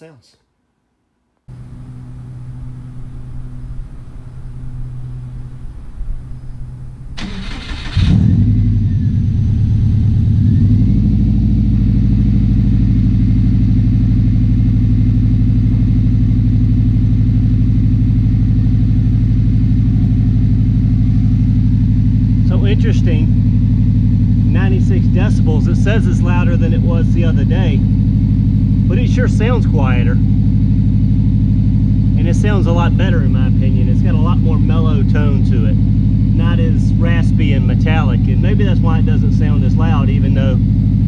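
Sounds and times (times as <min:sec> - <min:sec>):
low steady hum: 0:01.4 - 0:41.0
car engine starting and idling: 0:01.5 - 0:41.0.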